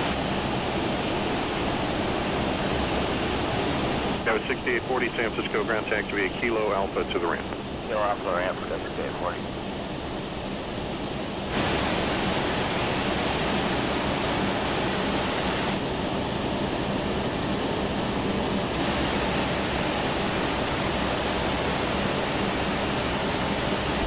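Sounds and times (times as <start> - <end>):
rushing aircraft noise: 0.0 - 24.0.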